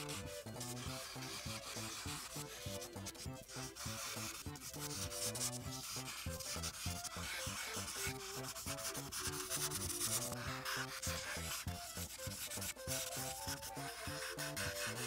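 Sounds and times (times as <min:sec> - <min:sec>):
background music: 0:00.0 - 0:15.0
coloring tool scratching on paper: 0:00.0 - 0:15.0.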